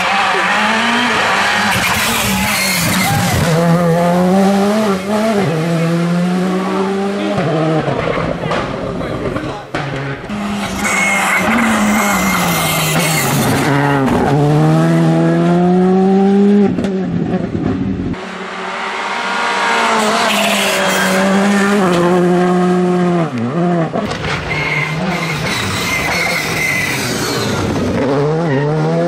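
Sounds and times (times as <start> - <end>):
rally car engine revving with upshifts: 0.0 - 29.0.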